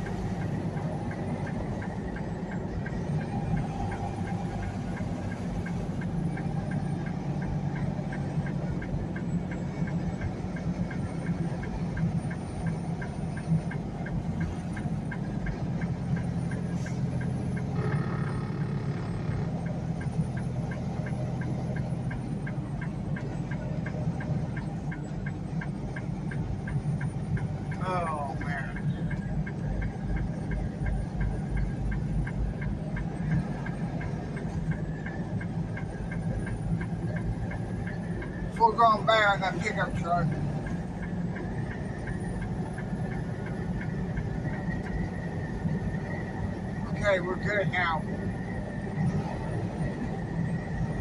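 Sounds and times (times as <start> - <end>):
fast light ticking: 0.0 - 51.0
truck diesel engine droning: 0.0 - 51.0.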